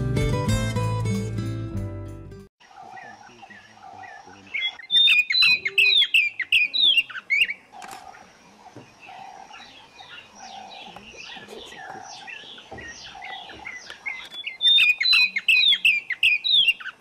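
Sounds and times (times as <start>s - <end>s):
birds chirping and whistling: 2.6s - 17.0s
fainter lower bird call: 2.6s - 17.0s.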